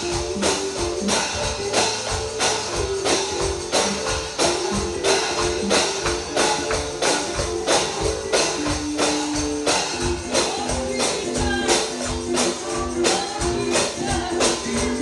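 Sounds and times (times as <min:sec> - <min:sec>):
instrumental gospel music: 0:00.0 - 0:15.0.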